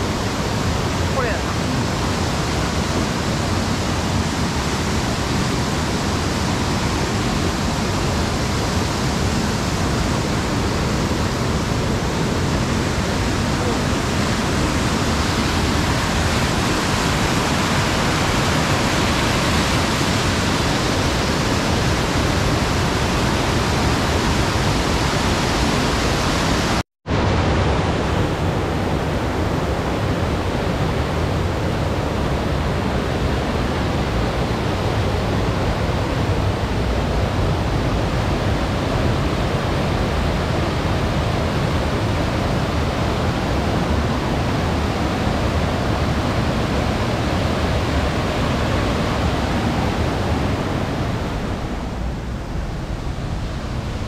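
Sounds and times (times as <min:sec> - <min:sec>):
rushing river and waterfall: 0:00.0 - 0:54.0.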